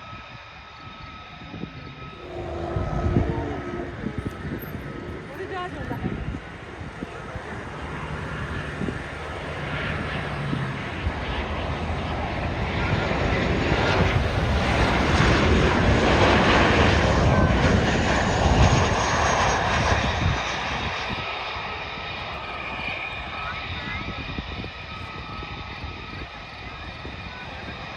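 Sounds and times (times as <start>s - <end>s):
airplane flying past: 0.0s - 27.9s.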